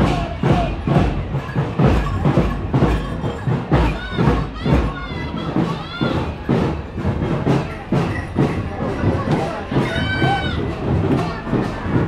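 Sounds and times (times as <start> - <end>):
festival crowd noise: 0.0 - 12.0
procession drums beating: 0.0 - 12.0.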